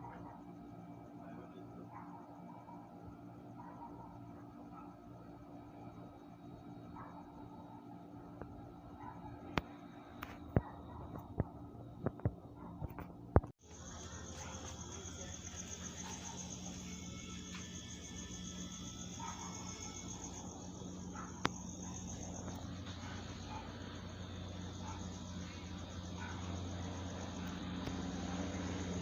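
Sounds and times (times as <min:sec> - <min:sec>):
crickets chirping: 0:00.0 - 0:29.0
low steady hum: 0:03.5 - 0:29.0.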